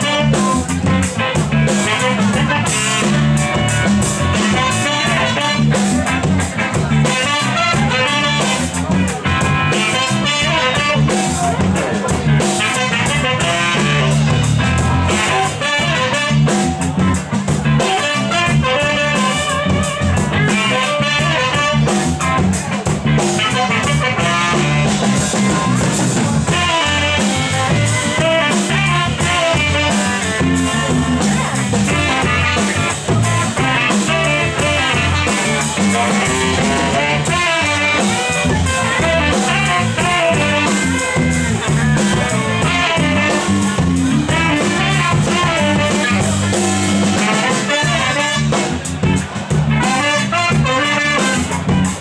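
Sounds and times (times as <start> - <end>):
live band playing amplified music: 0.0 - 52.0
steady drum beat: 0.0 - 52.0.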